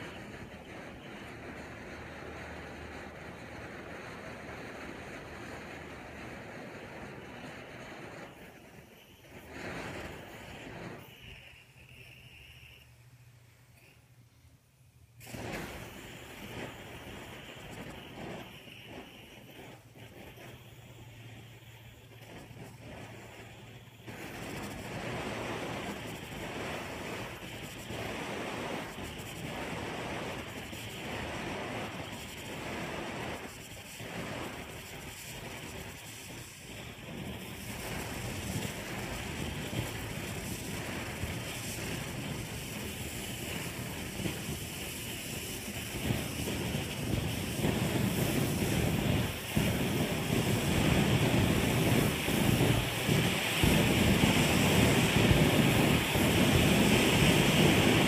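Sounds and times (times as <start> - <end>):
blowtorch flame rushing: 0.0 - 14.2, 15.1 - 58.0.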